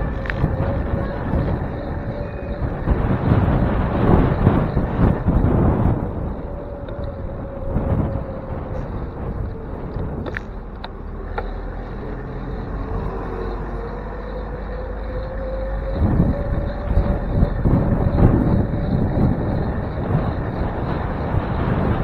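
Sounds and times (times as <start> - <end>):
street traffic: 0.0 - 22.0
wind buffeting microphone: 0.0 - 22.0.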